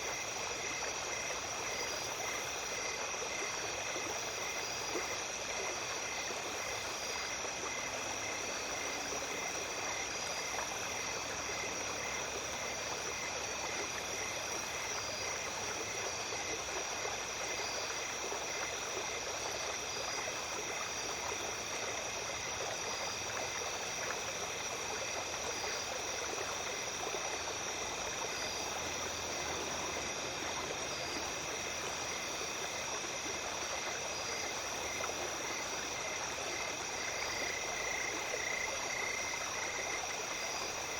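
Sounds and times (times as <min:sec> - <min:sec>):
insects chirping: 0:00.0 - 0:40.9
small stream flowing: 0:00.0 - 0:40.9.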